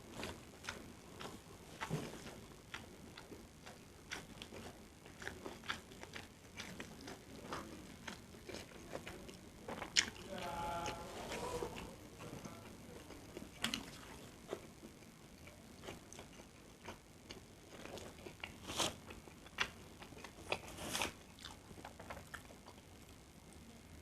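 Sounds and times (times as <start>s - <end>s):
person chewing food: 0.0s - 23.3s.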